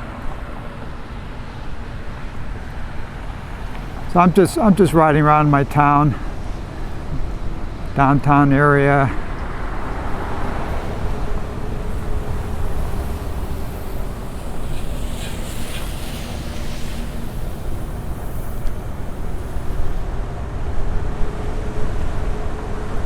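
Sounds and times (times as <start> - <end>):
faint steady hum: 0.0 - 23.0
wind rushing over microphone: 0.0 - 23.0.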